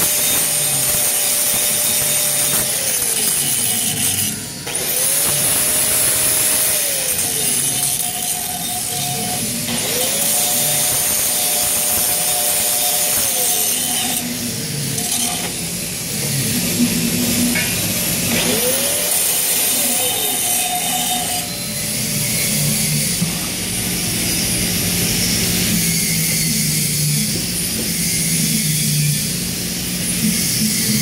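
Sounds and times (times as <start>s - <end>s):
welding arc crackling sizzle: 0.0s - 25.7s.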